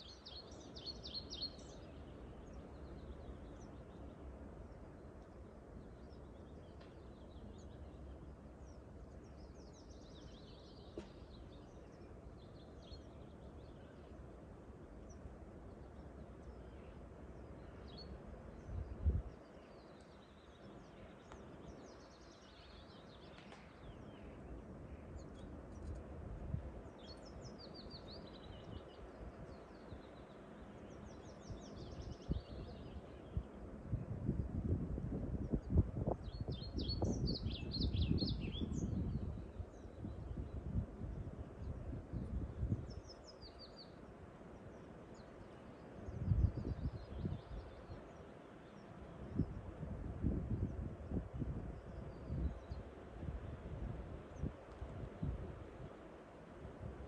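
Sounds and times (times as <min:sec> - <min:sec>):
low rumble of wind: 0:00.0 - 0:57.0
songbirds singing: 0:00.0 - 0:57.0.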